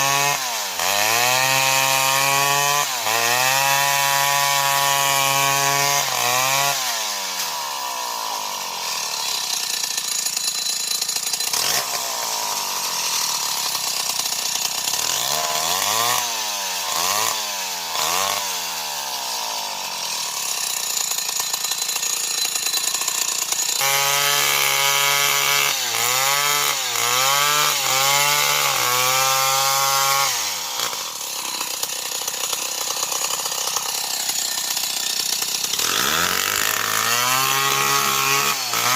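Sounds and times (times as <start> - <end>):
chainsaw cutting into tree: 0.0 - 38.9.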